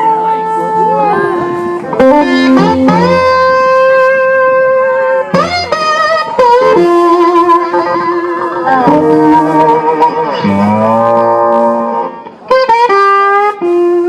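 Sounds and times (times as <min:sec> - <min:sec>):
blues-rock band playing: 0:00.0 - 0:14.0
electric guitar bending notes: 0:00.0 - 0:14.0.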